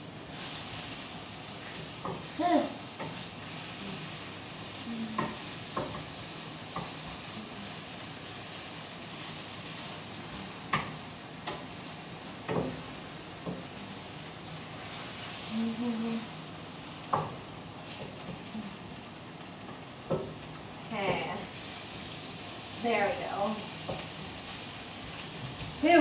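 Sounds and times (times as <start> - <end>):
eggplant sizzling in a pan: 0.0 - 26.0.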